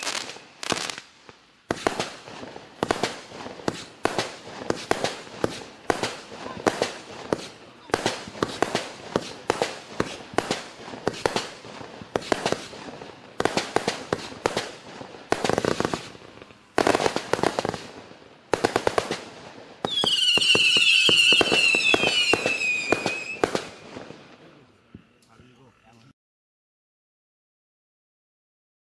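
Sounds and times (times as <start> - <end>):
high firework whistles: 0.0 - 24.3
firework bangs and crackling: 0.0 - 24.6.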